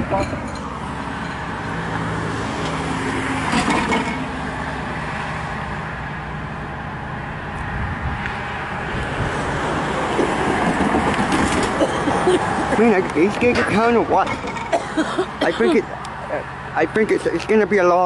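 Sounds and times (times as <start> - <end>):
cars passing with tyre noise: 0.0 - 18.0
vehicle engine humming: 0.0 - 18.0.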